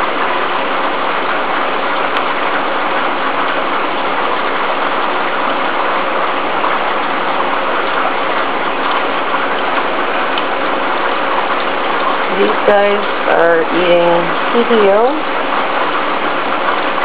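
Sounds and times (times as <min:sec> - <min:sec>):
aquarium air pump hum: 0:00.0 - 0:17.0
water rushing: 0:00.0 - 0:17.0.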